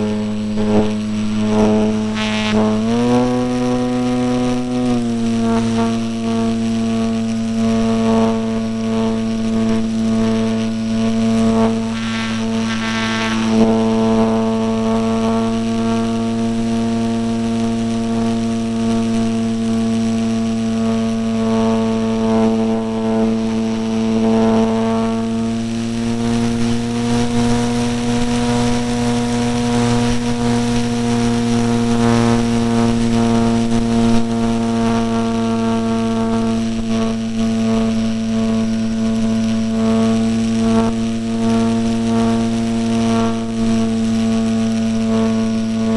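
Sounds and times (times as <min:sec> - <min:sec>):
model plane motor buzzing: 0:00.0 - 0:45.9.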